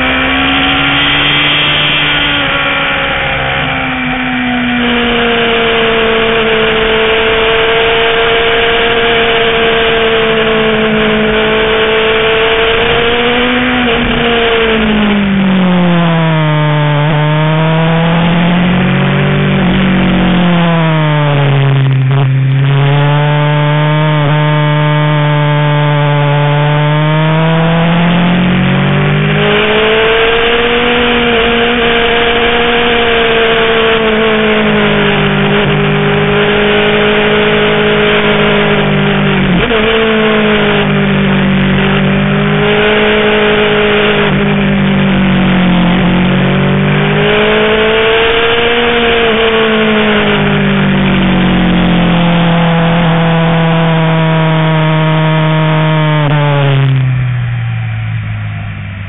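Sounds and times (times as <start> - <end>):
motorcycle engine at speed: 0.0 - 59.0
wind and road noise: 0.0 - 59.0.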